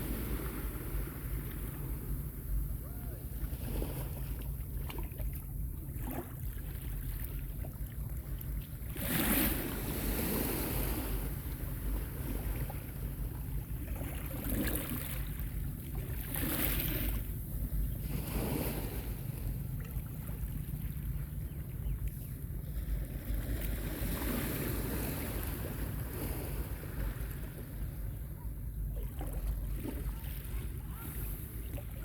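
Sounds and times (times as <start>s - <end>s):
small waves washing onto beach: 0.0s - 27.9s
wind rumble on microphone: 0.0s - 32.0s.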